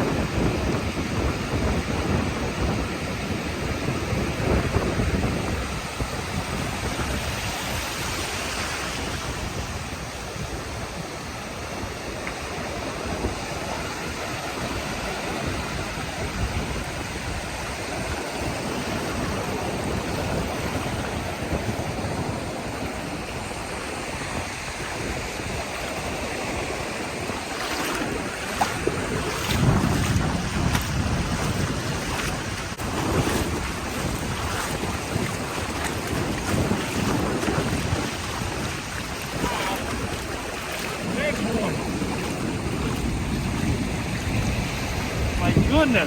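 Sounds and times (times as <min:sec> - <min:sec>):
ocean surf on a beach: 0:00.0 - 0:46.0.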